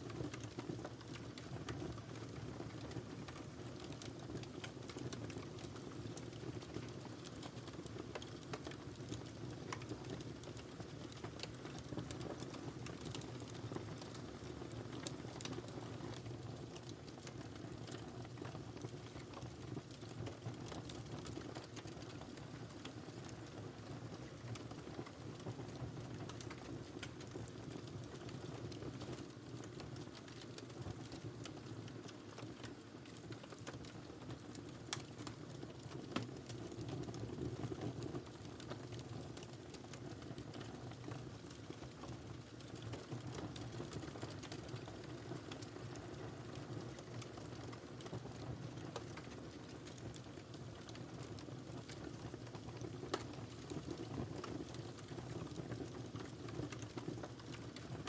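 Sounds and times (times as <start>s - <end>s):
wood fire crackling and popping: 0.0s - 58.0s
low rumble of flames: 0.1s - 58.0s.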